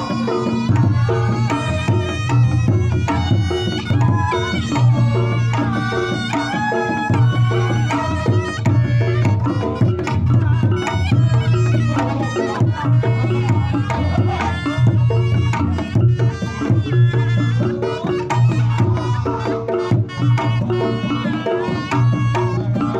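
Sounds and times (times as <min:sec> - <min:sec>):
hand drumming: 0:00.0 - 0:22.9.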